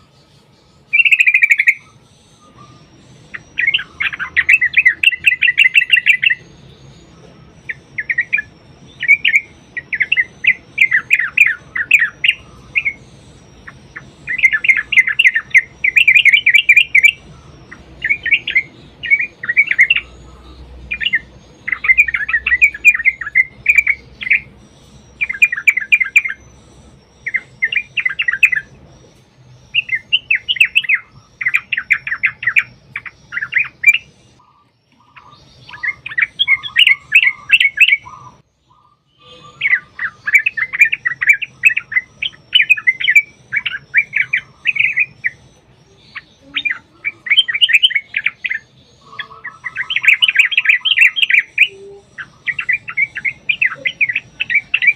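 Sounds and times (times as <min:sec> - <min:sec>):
bird chattering song: 0:00.0 - 0:54.9.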